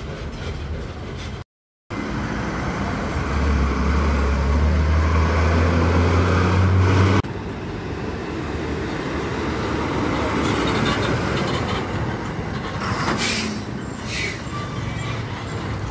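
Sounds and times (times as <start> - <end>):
road traffic noise: 0.0 - 15.9
truck approaching: 0.0 - 15.9
diesel truck passing: 1.9 - 15.9.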